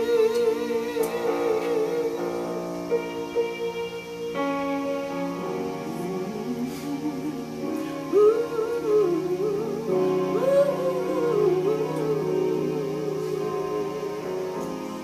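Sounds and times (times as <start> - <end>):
woman singing with vibrato: 0.0 - 4.4, 5.4 - 15.0
sustained keyboard chords: 0.0 - 15.0.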